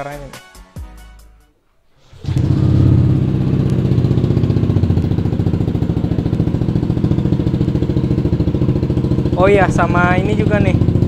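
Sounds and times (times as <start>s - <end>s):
scooter engine starting and idling: 2.0s - 11.0s.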